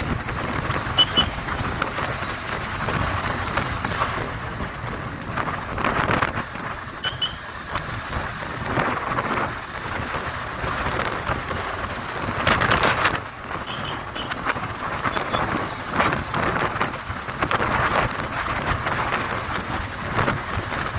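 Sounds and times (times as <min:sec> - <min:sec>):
wind buffeting microphone: 0:00.0 - 0:07.0, 0:07.6 - 0:20.9
motorcycle engine running: 0:00.0 - 0:20.9.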